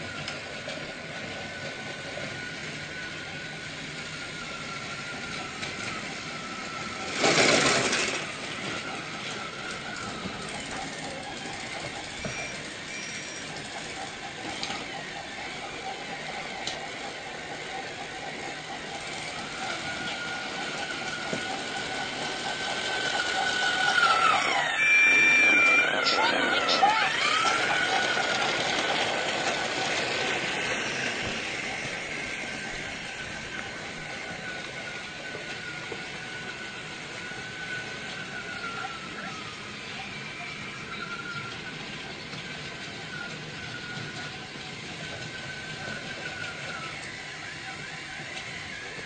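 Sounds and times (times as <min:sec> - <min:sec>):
toy train motor whine: 0:00.0 - 0:49.0.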